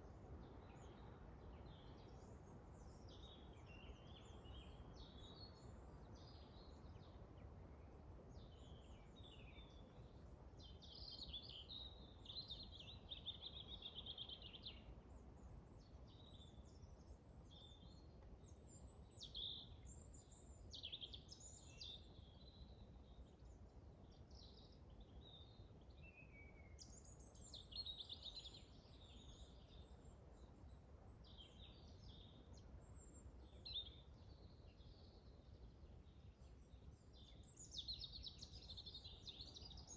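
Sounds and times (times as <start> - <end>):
low rumble of wind: 0.0 - 39.9
songbirds chirping and warbling: 0.2 - 39.9.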